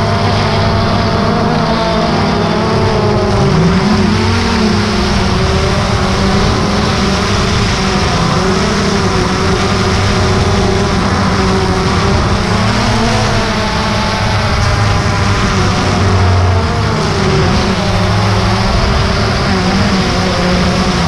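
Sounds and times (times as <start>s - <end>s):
drone motors buzzing: 0.0s - 21.0s.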